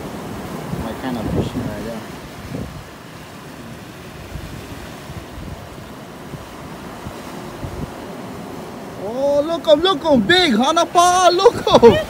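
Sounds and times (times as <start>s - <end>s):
ocean surf over rocks: 0.0s - 12.0s
wind buffeting microphone: 0.0s - 12.0s.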